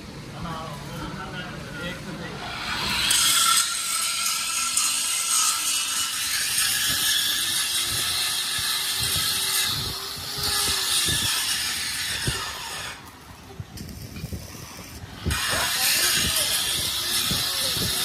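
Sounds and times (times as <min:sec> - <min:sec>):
power tool grinding metal: 0:02.4 - 0:13.2, 0:13.8 - 0:18.0.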